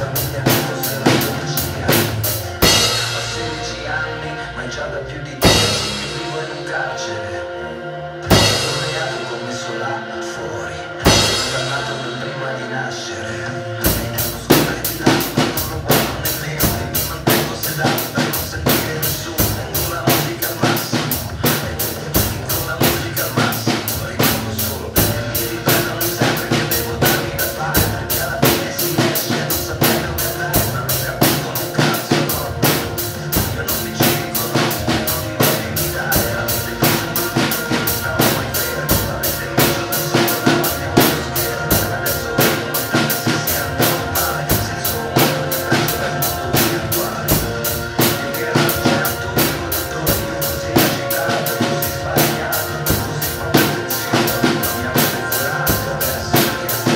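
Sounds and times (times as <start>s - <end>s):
drum kit groove: 0.0s - 4.2s, 5.4s - 6.8s, 8.2s - 10.2s, 11.0s - 12.7s, 13.4s - 56.9s
pop song backing track: 0.0s - 56.9s.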